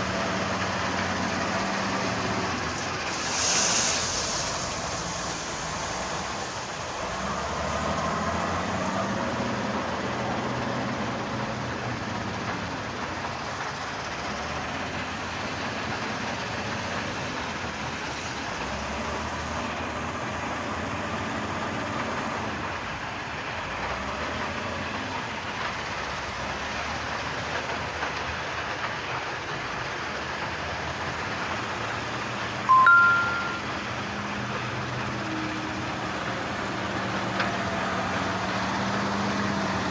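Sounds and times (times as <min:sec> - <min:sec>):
construction machinery engines: 0:00.0 - 0:39.9.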